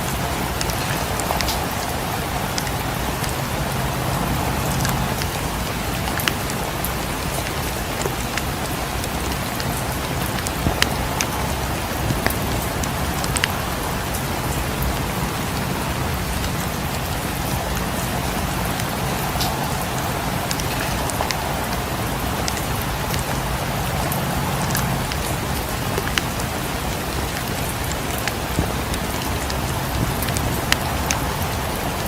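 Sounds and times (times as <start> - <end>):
sharp ticks and pops: 0.0 - 5.4, 6.0 - 14.2, 16.3 - 26.4, 27.3 - 31.8
rain falling: 0.0 - 32.0.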